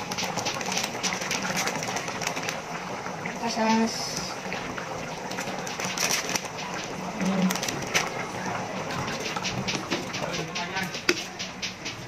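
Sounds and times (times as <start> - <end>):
stew boiling with pops: 0.0 - 12.0.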